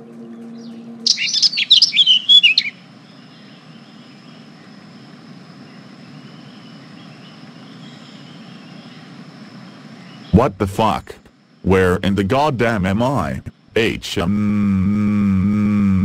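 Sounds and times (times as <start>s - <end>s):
songbirds chirping: 0.0s - 14.3s
low steady hum: 0.0s - 16.0s.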